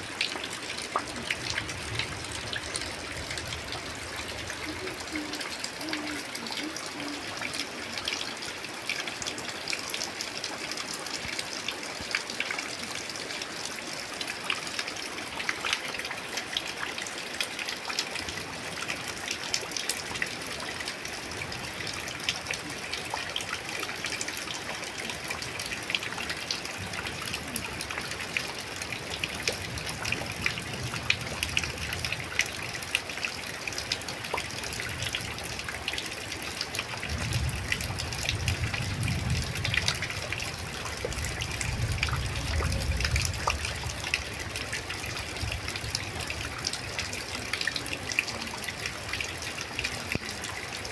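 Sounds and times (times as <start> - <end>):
light drizzling rain: 0.0 - 50.9.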